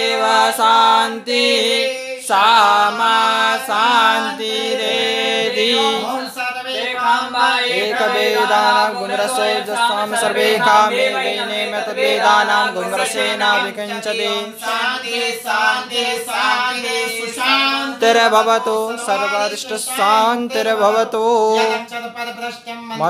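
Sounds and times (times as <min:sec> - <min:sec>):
voices chanting in unison: 0:00.0 - 0:21.9.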